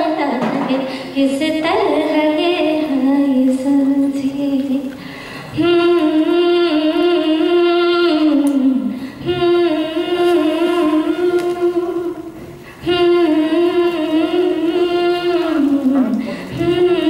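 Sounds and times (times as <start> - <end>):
woman singing into a microphone: 0.0 - 17.0.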